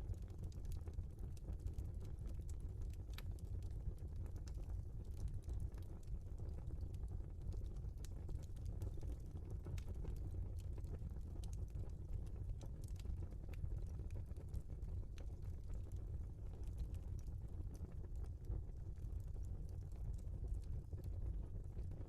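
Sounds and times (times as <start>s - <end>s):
burning logs crackling and popping: 0.0s - 22.0s
fire rumbling: 0.1s - 22.0s.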